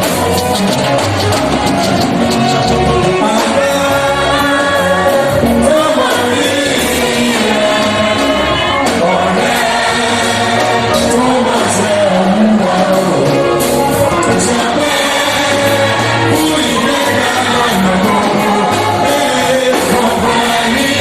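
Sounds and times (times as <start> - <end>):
choir singing gospel music: 0.0 - 21.0
instrumental backing with bass line: 0.0 - 21.0.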